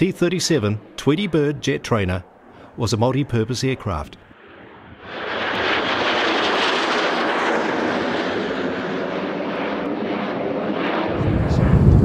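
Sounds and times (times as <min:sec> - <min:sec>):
jet engines in flight: 0:00.0 - 0:12.0.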